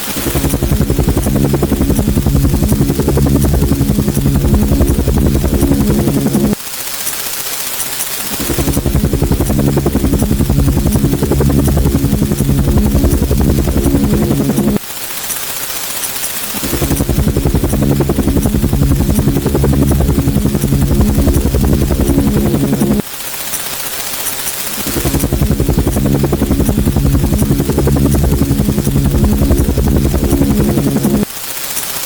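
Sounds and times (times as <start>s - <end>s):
helicopter rotor chop: 0.0s - 32.0s.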